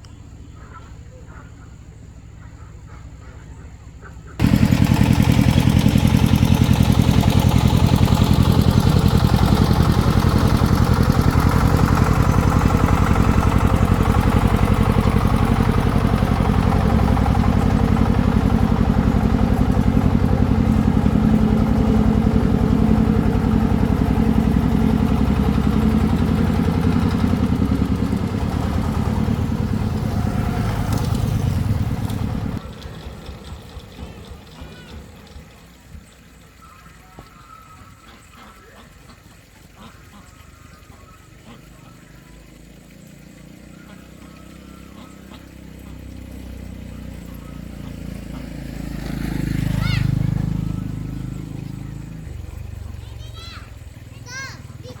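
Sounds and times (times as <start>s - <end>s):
diesel engine chugging: 0.2s - 55.0s.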